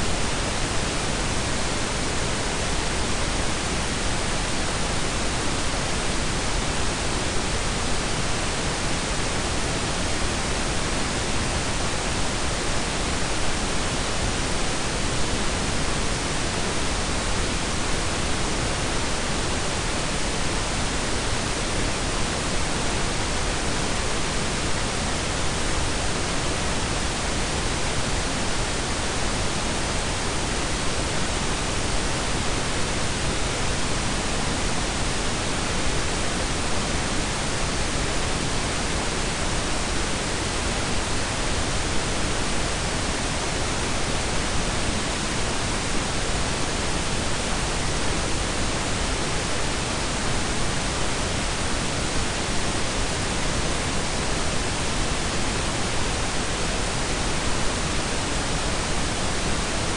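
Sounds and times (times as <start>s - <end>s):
pink and brown noise: 0.0s - 59.9s.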